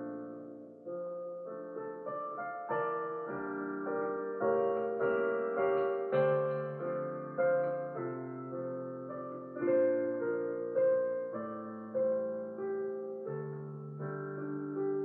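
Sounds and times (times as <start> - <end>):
digital piano chords and melody: 0.0 - 15.0.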